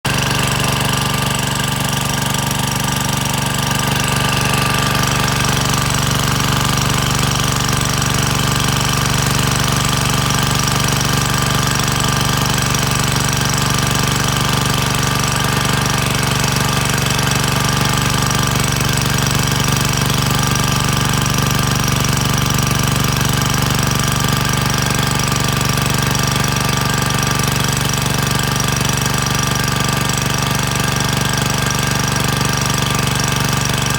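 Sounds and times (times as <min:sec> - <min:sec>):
water pump engine chattering: 0:00.0 - 0:33.9.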